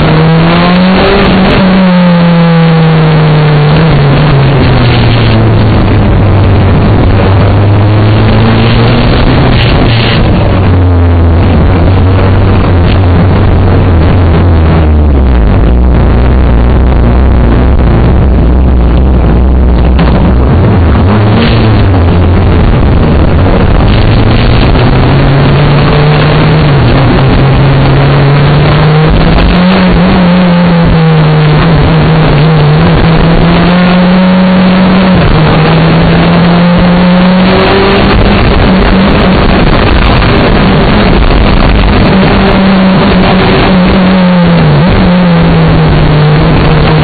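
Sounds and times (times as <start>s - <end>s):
rally car engine revving: 0.0s - 47.0s
wind noise on microphone: 0.0s - 47.0s.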